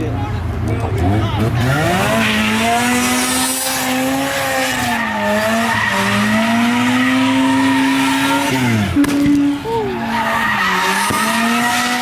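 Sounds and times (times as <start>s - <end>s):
car engine at high revs: 0.0s - 12.0s
spinning tyres screeching: 0.5s - 12.0s.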